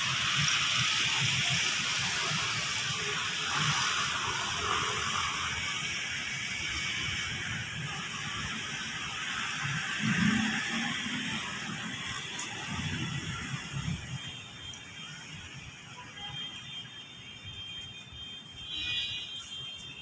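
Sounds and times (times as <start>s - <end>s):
distant city noise: 0.0s - 20.0s.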